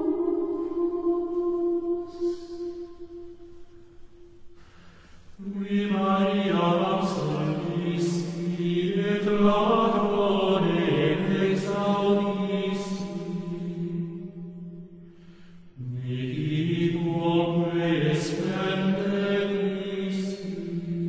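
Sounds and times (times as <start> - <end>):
meditative chant of low held notes: 0.0 - 21.0.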